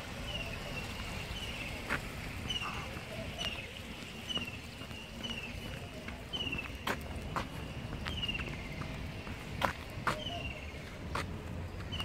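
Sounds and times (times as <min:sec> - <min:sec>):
outdoor background hum: 0:00.0 - 0:12.0
footsteps on paving: 0:00.9 - 0:12.0.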